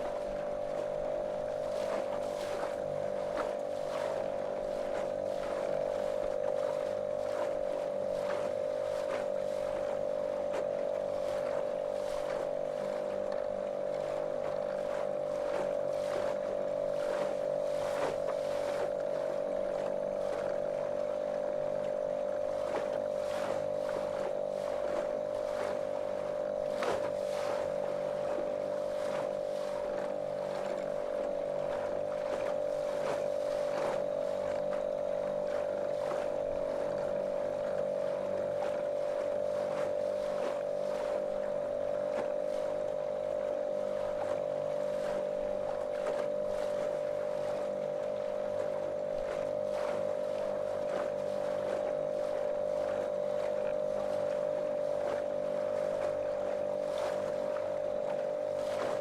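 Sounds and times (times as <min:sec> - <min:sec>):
motorboat motor droning: 0:00.0 - 0:59.0
water slapping hull: 0:00.0 - 0:59.0.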